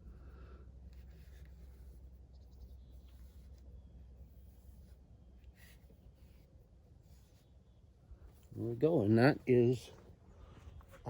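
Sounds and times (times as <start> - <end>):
low steady hum: 0.0 - 11.0
cloth rubbing on plastic lens: 0.8 - 9.8.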